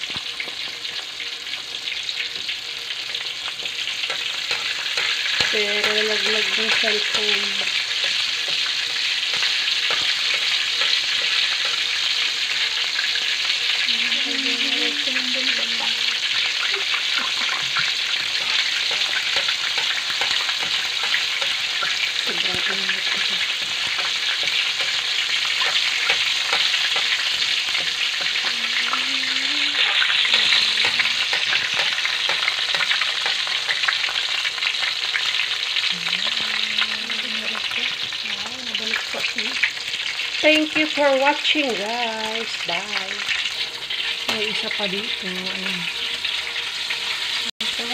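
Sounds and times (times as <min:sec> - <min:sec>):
fish sizzling in hot oil: 0:00.0 - 0:47.9.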